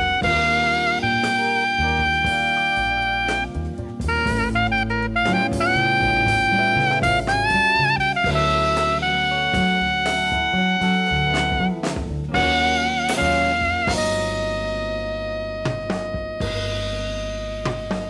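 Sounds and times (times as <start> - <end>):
bass: 0.0 - 18.0
drums: 0.0 - 18.0
wind instrument melody: 0.0 - 18.0.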